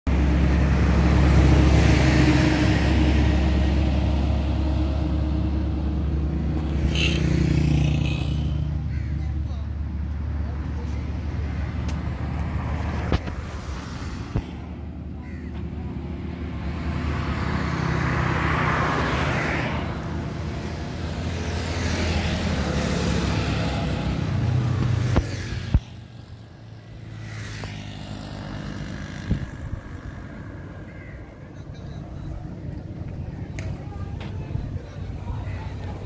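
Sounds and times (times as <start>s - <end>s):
vehicles passing close by: 0.1s - 36.0s.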